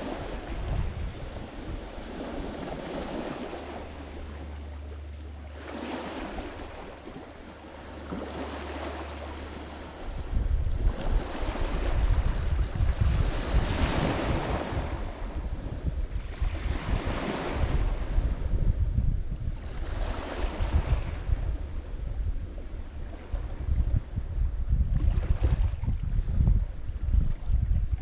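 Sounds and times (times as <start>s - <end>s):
waves breaking on shore: 0.0s - 18.8s, 19.4s - 24.2s, 24.9s - 28.0s
wind buffeting microphone: 0.0s - 28.0s.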